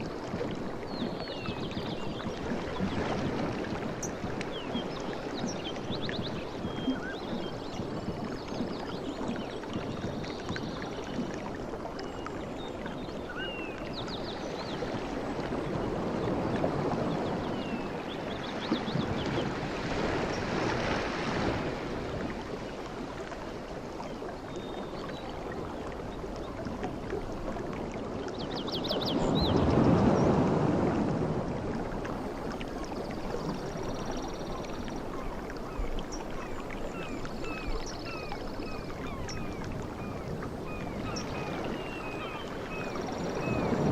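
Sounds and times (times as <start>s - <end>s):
sea waves washing in: 0.0s - 12.0s, 14.4s - 24.4s, 25.0s - 43.9s.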